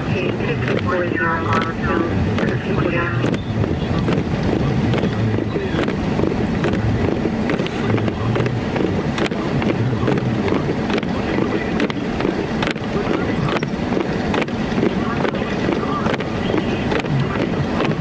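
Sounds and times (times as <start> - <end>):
car driving rumble inside cabin: 0.0 - 18.0.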